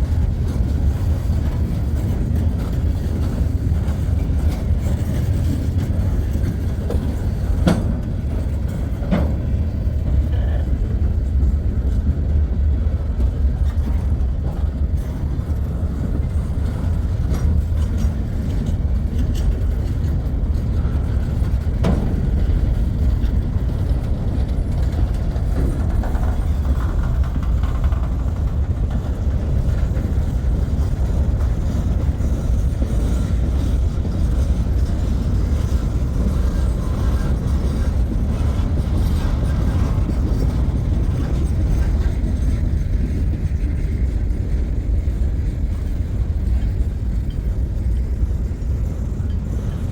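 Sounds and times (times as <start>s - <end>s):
freight train rolling on rails: 0.0s - 49.9s.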